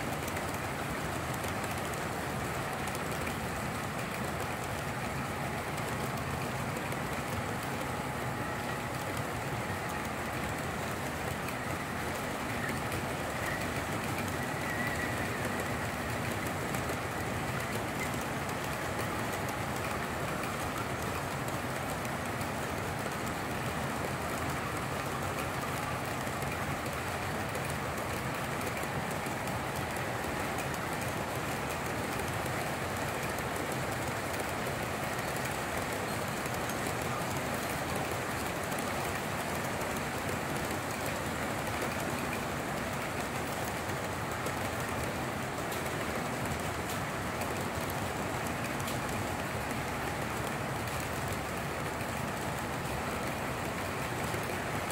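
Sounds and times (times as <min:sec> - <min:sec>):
model train wheels rattling: 0:00.0 - 0:54.9.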